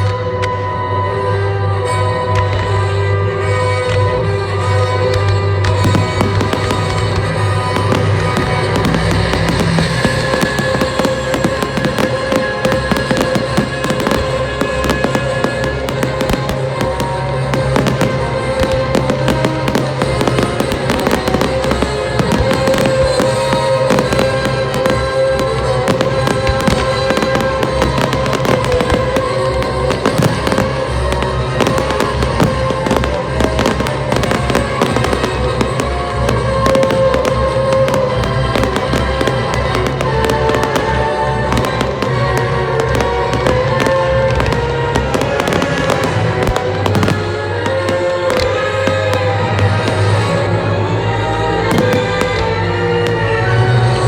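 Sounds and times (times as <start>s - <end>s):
fireworks popping and banging: 0.0s - 54.0s
music playing: 0.1s - 54.0s.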